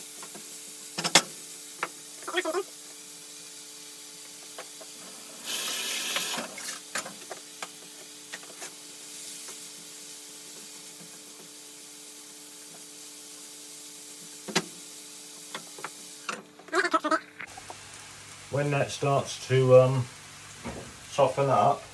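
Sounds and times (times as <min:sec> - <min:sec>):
onions sizzling in frying pan: 0:00.0 - 0:21.9.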